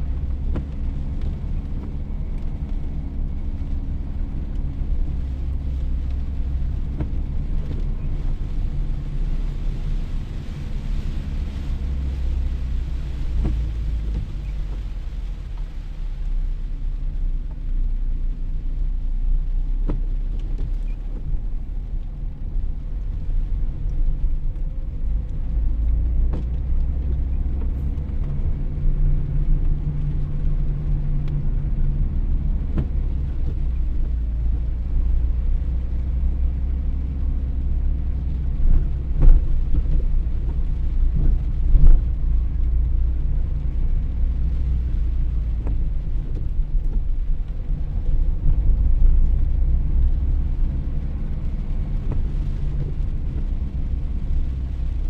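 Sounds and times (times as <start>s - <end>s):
low vehicle rumble: 0.0s - 55.0s.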